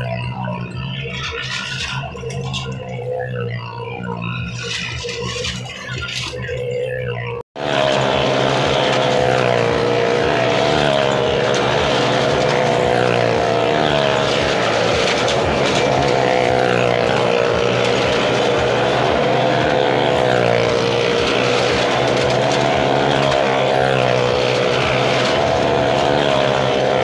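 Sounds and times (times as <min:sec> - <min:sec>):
motorcycle engine at high revs: 0:00.0 - 0:27.0.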